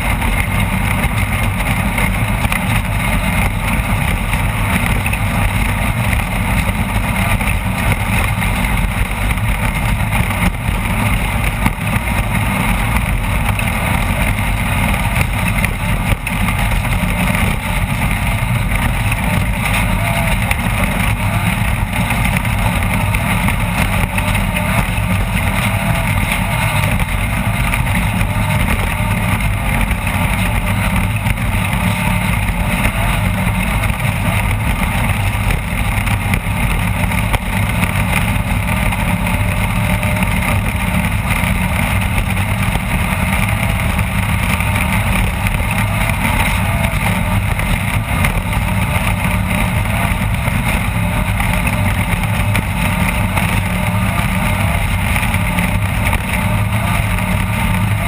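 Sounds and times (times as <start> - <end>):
race vehicle engine running: 0.0 - 58.0
rush of driving noise: 0.0 - 58.0.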